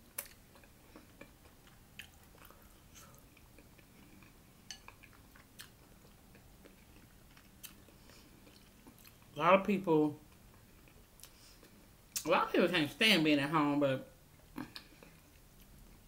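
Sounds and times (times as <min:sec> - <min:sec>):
faint chewing: 0:00.0 - 0:09.3, 0:10.3 - 0:12.3, 0:14.3 - 0:16.0.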